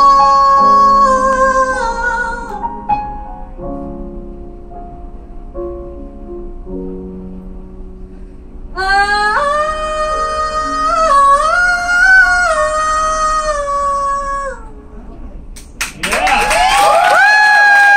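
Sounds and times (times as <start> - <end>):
soft piano chords: 0.0 - 15.6.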